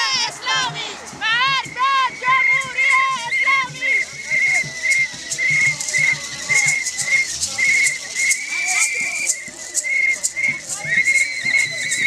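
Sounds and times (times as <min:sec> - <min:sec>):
plastic maraca rattling: 0:00.0 - 0:12.0
whistles trilling: 0:01.6 - 0:12.0.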